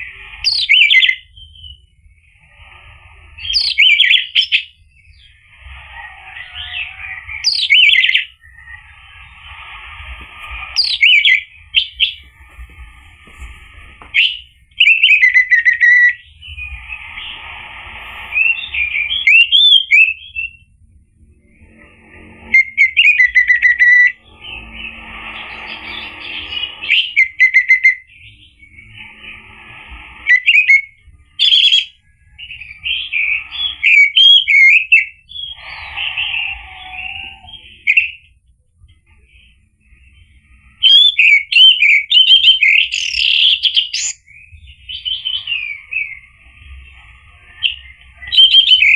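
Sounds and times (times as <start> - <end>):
thrush singing whistles and warbles: 0.0 - 48.9.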